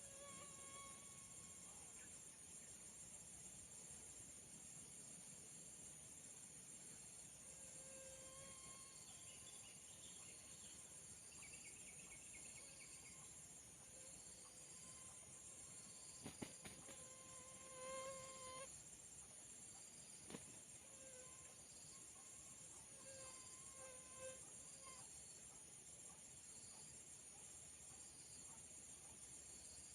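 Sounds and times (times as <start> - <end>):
faint insect chorus: 0.0 - 29.9.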